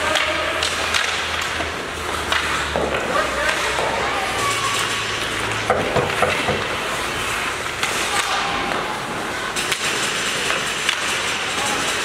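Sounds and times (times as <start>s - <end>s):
arena noise: 0.0s - 12.0s
hockey sticks and puck clacking: 0.0s - 12.0s
skates scraping on ice: 0.0s - 12.0s.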